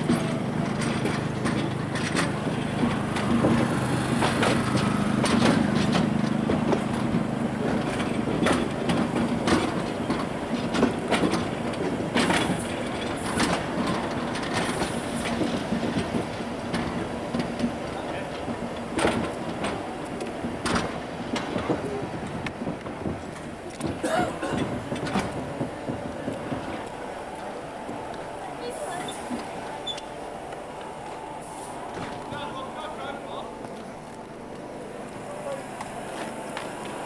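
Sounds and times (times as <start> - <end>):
low hum of electric train: 0.0 - 37.0.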